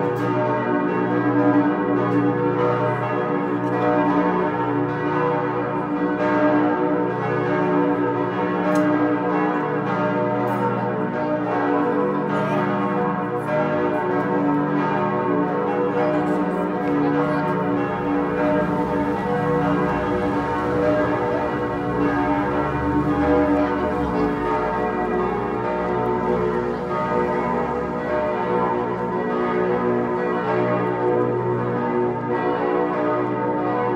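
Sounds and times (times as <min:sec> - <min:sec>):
church bells pealing: 0:00.0 - 0:33.9.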